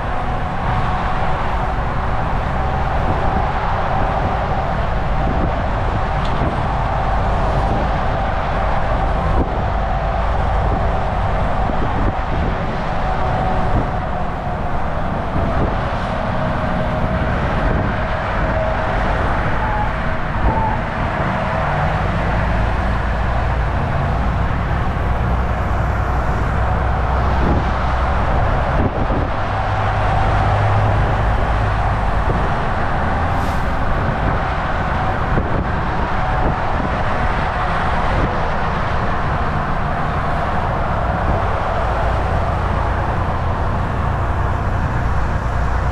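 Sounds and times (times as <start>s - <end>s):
truck engine drone: 0.0s - 45.9s
tyre and road noise: 0.0s - 45.9s.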